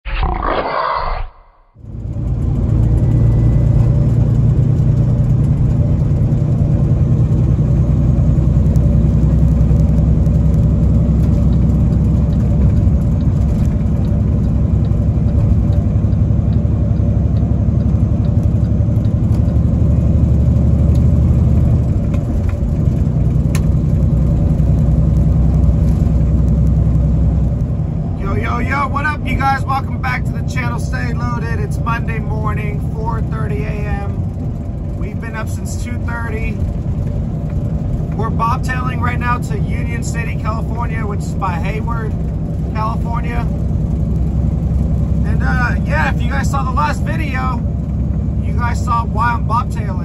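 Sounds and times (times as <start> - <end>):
truck engine and road rumble: 1.4 - 50.0.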